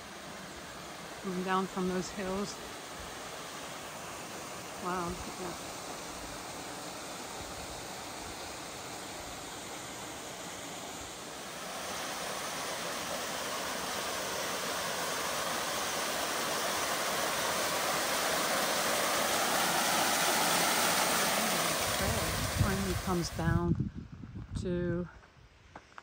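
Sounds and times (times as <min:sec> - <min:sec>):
waterfall rushing onto stone: 0:00.0 - 0:23.5.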